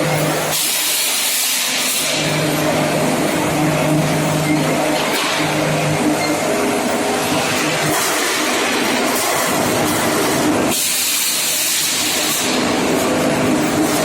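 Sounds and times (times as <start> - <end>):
factory machinery running: 0.0 - 14.0.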